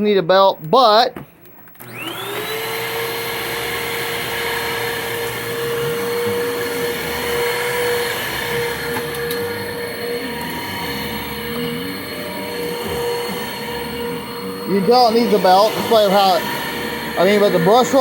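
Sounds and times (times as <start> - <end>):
vacuum cleaner motor whining: 1.7 - 18.0.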